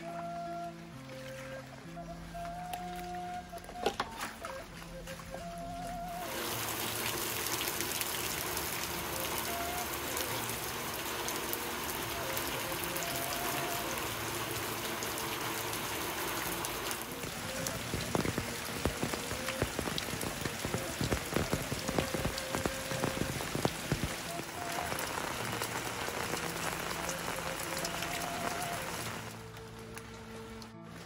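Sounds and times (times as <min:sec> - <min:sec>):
steady rain: 0:04.5 - 0:31.0.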